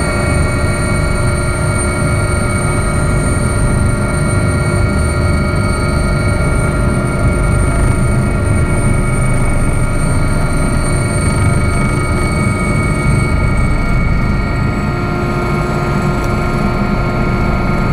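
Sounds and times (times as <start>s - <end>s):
helicopter rotor and turbine drone: 0.0s - 17.9s
high turbine whine: 0.0s - 17.9s.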